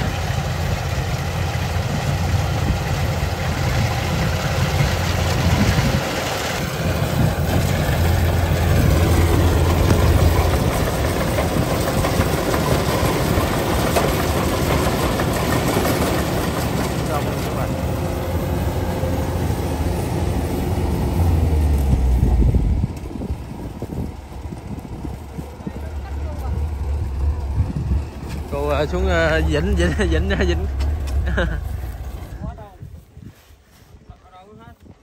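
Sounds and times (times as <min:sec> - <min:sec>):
combine harvester engine drone: 0:00.0 - 0:33.0.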